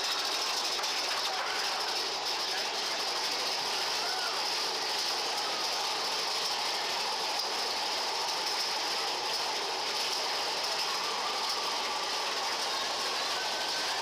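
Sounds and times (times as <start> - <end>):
roller coaster rattling on rails: 0.0 - 14.0.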